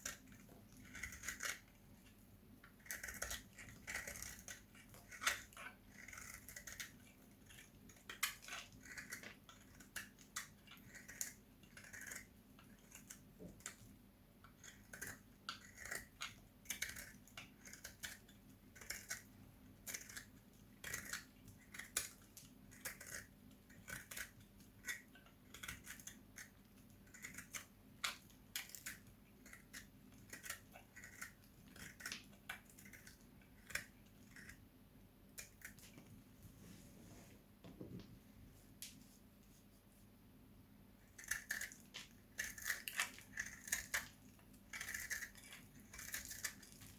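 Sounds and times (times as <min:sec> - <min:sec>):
blade cutting hard soap: 0:00.0 - 0:34.7, 0:41.1 - 0:46.9.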